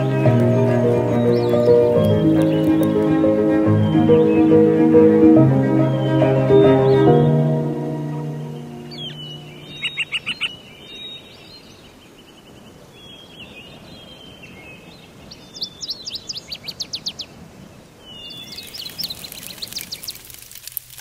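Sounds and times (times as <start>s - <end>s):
small birds chirping: 0.0s - 20.6s
outdoor background hiss: 0.0s - 21.0s.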